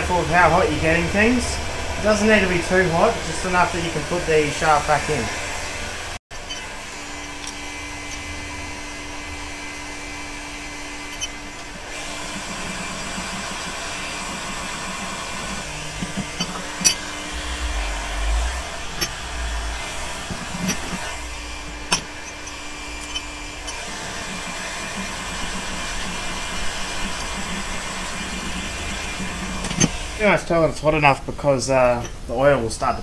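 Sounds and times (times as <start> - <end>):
heat gun blowing: 0.0 - 30.6.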